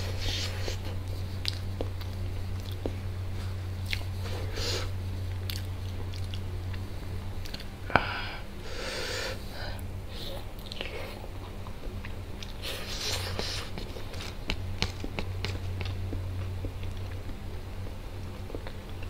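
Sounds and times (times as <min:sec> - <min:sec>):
chewing and wet mouth sounds: 0:00.0 - 0:04.5, 0:05.2 - 0:07.7, 0:10.3 - 0:19.0
low hum: 0:00.0 - 0:19.0.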